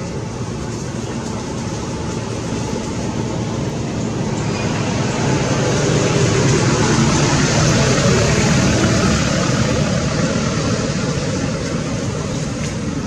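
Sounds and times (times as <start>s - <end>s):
motor vehicle running: 0.0s - 13.0s.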